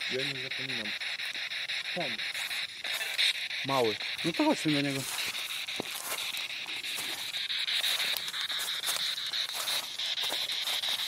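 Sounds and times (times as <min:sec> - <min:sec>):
radio static hiss: 0:00.0 - 0:11.0
rapid regular clicks: 0:00.0 - 0:11.0.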